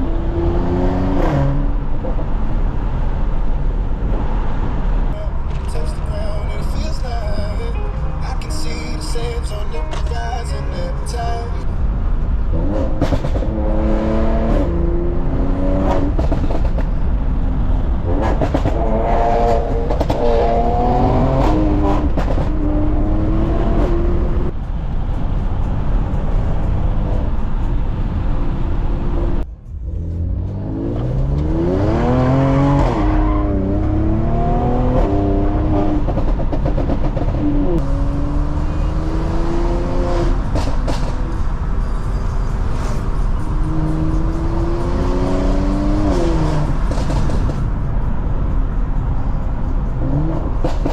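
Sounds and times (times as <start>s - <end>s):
car engine and exhaust revving: 0.0s - 50.9s
road and tyre noise: 0.0s - 50.9s.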